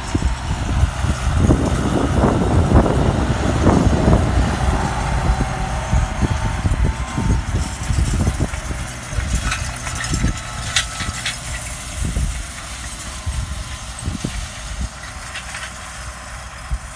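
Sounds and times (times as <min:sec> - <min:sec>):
tractor engine rumbling: 0:00.0 - 0:16.9.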